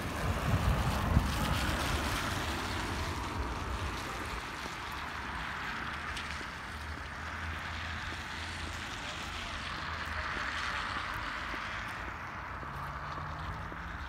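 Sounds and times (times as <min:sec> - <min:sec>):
car tyres hissing on wet road: 0:00.0 - 0:14.0
rain falling: 0:00.0 - 0:14.0.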